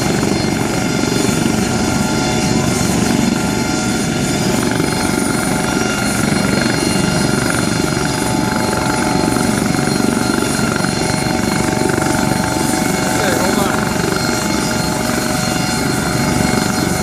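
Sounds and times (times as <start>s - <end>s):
aircraft rumble: 0.0s - 17.0s
aircraft turbine whine: 0.0s - 17.0s.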